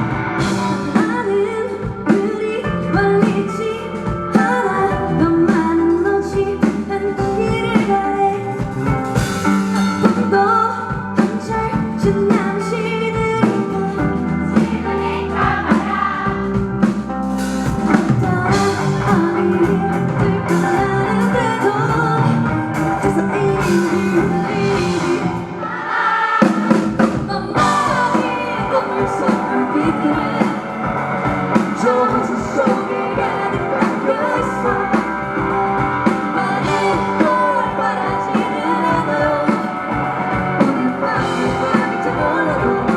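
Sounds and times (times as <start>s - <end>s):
live rock band playing: 0.0s - 25.8s, 26.4s - 42.9s
woman singing: 0.4s - 9.0s, 10.0s - 16.6s, 17.9s - 42.9s.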